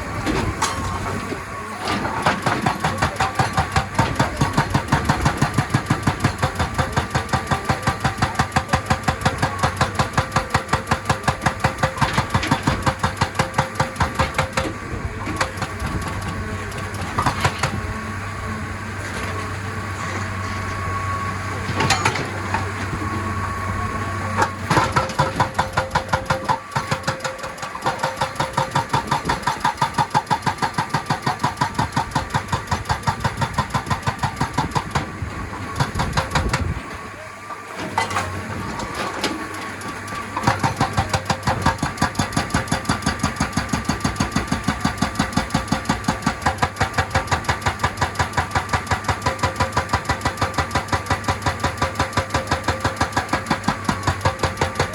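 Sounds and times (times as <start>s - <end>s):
excavator engine running: 0.0s - 54.9s
hydraulic rock breaker hammering: 0.0s - 54.9s.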